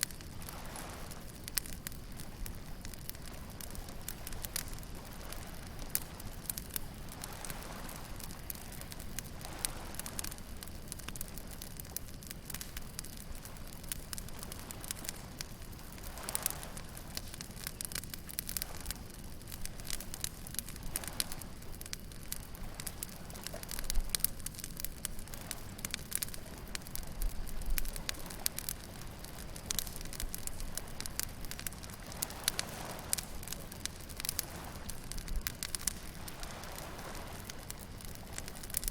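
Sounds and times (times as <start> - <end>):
bonfire crackling and popping: 0.0 - 38.9
waves breaking on a beach: 0.0 - 38.9.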